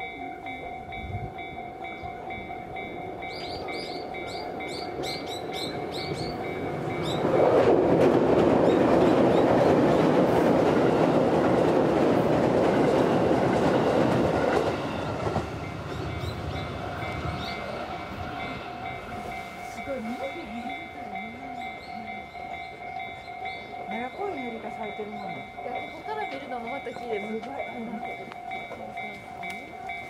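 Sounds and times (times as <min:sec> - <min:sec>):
level crossing warning bell: 0:00.0 - 0:30.0
train wheels rumbling and clattering: 0:00.0 - 0:30.0.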